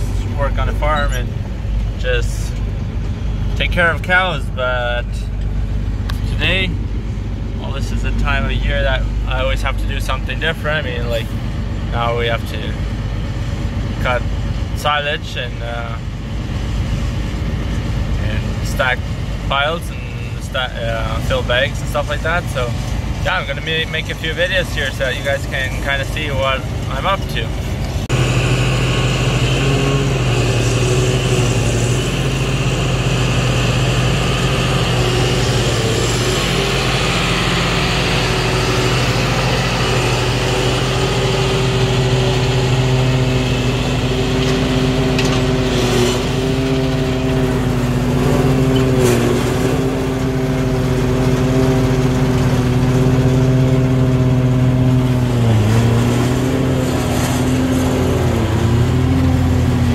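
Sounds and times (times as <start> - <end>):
tractor engines under load: 0.0 - 59.9.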